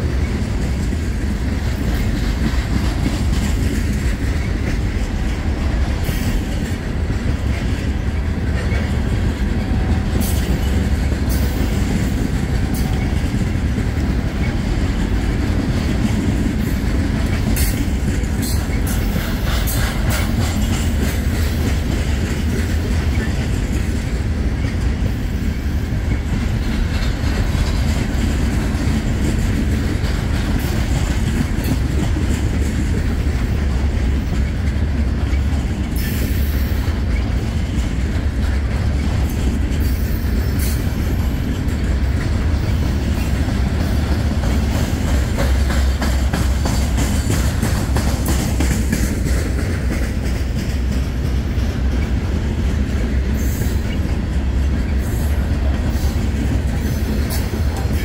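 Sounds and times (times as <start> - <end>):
freight train heavy rumble: 0.0 - 58.0
wheels clacking over rail joints: 0.0 - 58.0.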